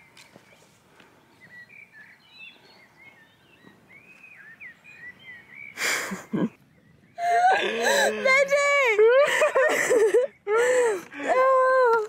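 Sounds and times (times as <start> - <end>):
songbird singing and warbling: 0.0 - 8.9, 10.0 - 10.9.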